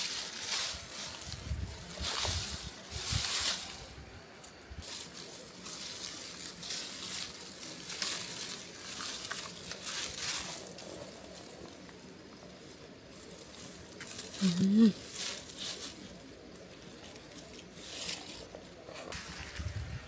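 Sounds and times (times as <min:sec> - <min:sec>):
dry stalks rustling and crackling: 0:00.0 - 0:20.0.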